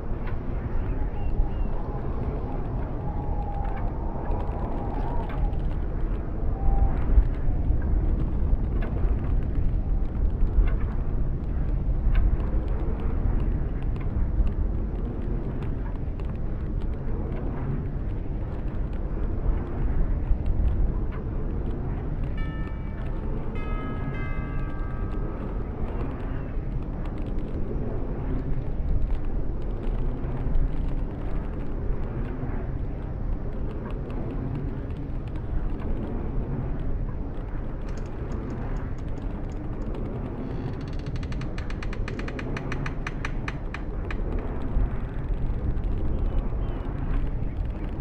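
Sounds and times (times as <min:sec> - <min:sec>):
wind rumbling: 0:00.0 - 0:48.0
windmill machinery creaks and clicks: 0:07.0 - 0:48.0.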